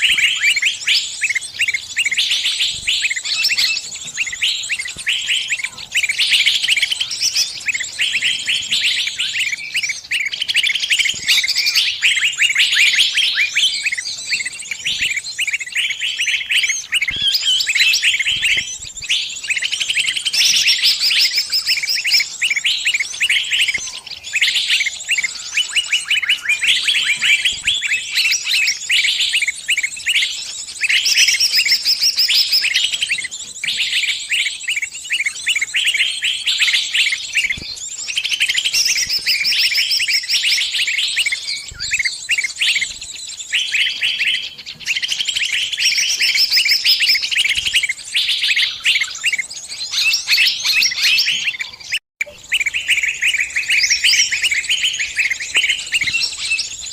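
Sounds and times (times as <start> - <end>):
small bird distress chirps: 0.0 - 56.9.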